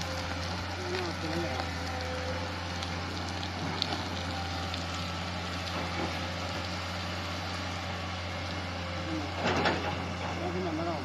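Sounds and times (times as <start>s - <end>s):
diesel engine humming: 0.0s - 11.0s
rocks and gravel tumbling: 0.0s - 11.0s.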